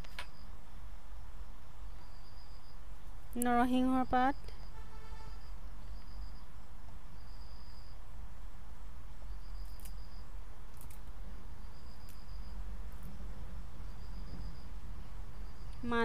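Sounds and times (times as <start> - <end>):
steady low hum: 0.0 - 16.0
insect chirping in high trills: 1.7 - 8.1, 9.0 - 16.0.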